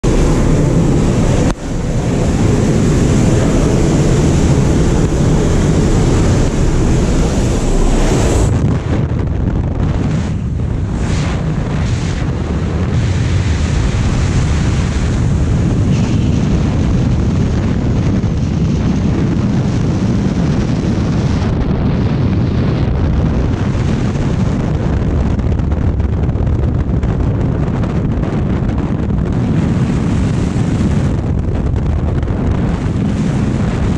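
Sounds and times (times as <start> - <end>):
wind rushing on microphone: 0.0 - 33.9.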